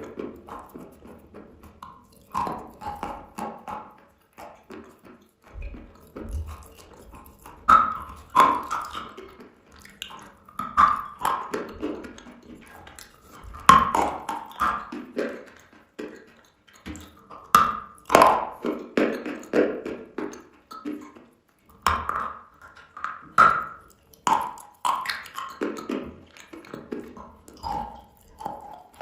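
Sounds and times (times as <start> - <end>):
chalk being bitten and chewed: 0.0 - 29.0.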